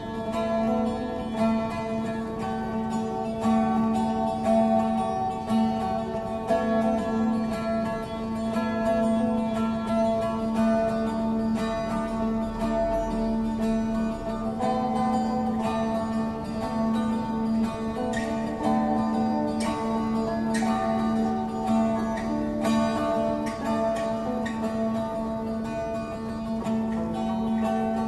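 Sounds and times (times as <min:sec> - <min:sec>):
plucked string instrument music: 0:00.0 - 0:28.0.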